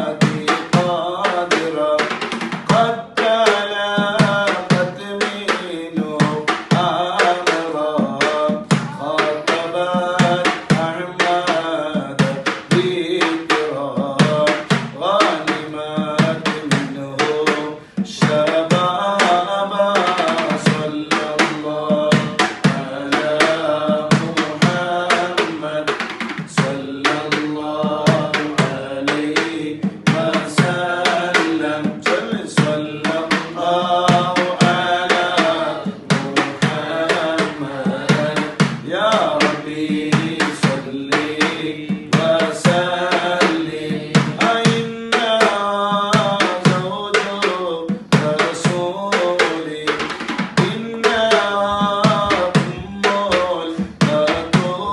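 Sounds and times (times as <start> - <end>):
steady drum beat: 0.0 - 54.9
voices singing ornamented melody: 0.0 - 54.9.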